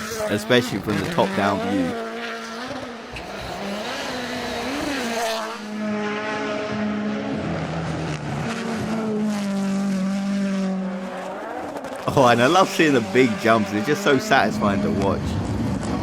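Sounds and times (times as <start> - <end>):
rally car engine running hard: 0.0 - 16.0.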